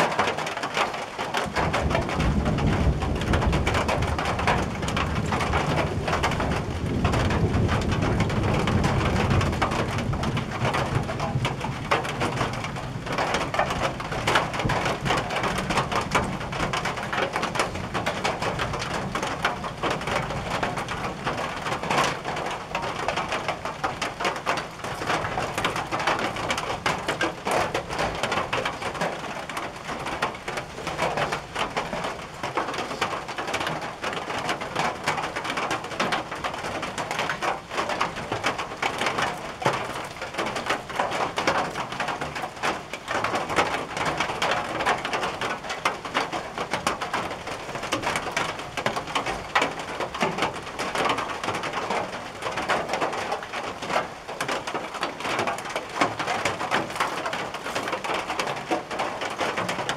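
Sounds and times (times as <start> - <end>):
rain on a tin roof: 0.0 - 59.9
distant thunder rumble: 1.4 - 53.4.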